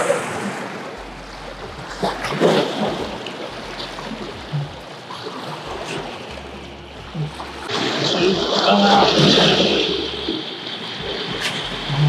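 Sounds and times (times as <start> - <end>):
river water lapping against rocks: 0.0 - 12.0.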